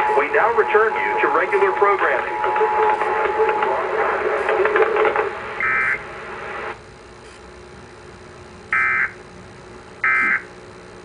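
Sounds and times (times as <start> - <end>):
broadcast hiss: 0.0 - 9.2.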